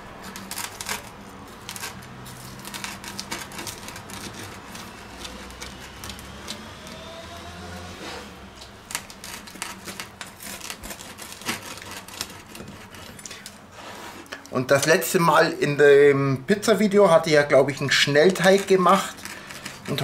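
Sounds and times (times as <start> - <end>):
pizza cutter crunching crust: 0.0 - 15.2, 17.6 - 20.0.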